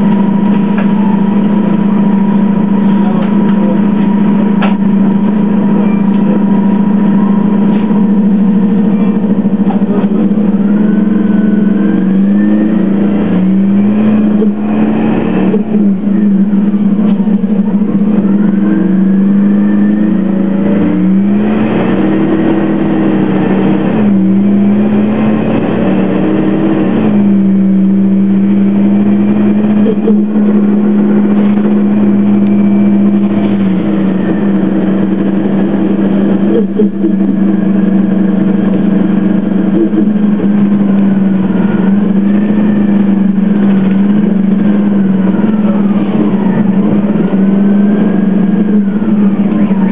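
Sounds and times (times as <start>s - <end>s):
bus engine low drone: 0.0s - 49.9s.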